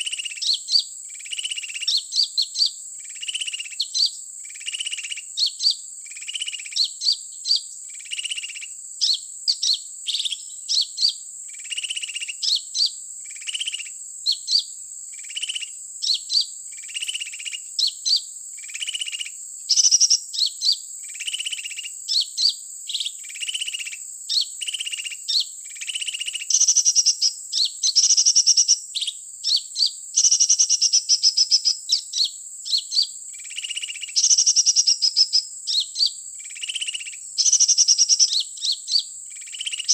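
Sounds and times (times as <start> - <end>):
recorded sunbird calls: 0.0 - 39.9.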